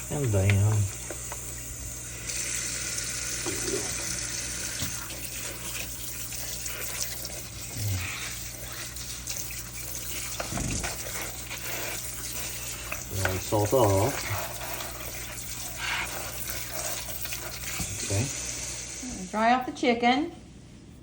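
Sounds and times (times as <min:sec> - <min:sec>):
tap water running into sink: 0:00.0 - 0:19.0.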